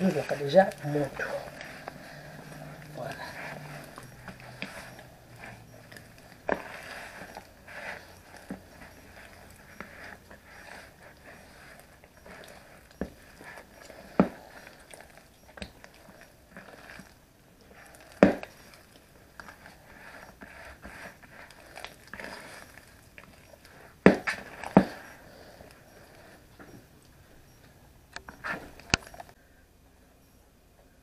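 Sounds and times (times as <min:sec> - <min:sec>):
low rustling: 0:00.0 - 0:29.4.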